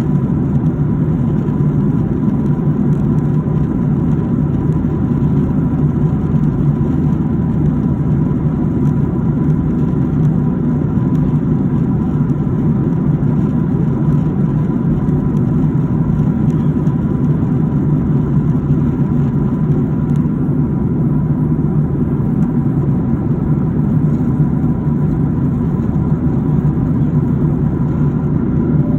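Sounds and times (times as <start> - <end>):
airliner engine drone: 0.0 - 28.9
faint steady whine: 0.0 - 28.9.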